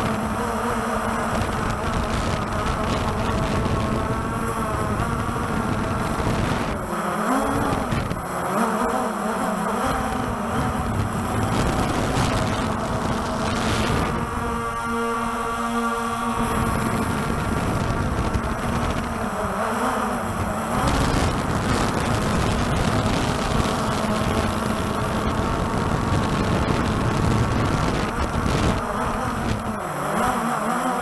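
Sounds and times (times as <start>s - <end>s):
wind buffeting microphone: 0.0s - 8.4s, 9.8s - 29.8s
drone rotors buzzing: 0.0s - 31.0s.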